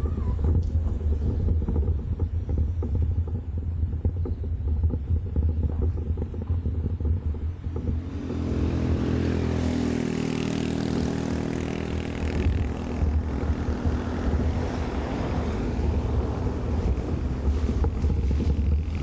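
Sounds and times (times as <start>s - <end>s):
car engine running: 0.0s - 19.0s
tyre noise: 0.0s - 19.0s
wind noise: 0.0s - 19.0s.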